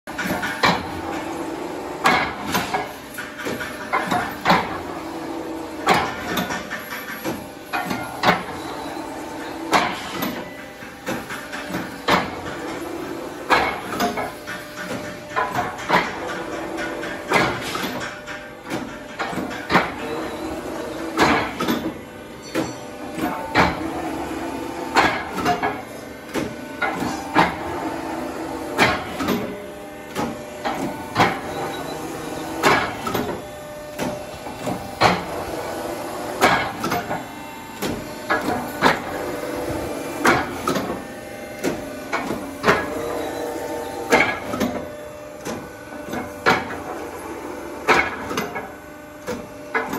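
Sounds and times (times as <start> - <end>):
hydraulic motor and pump humming: 0.1 - 49.9.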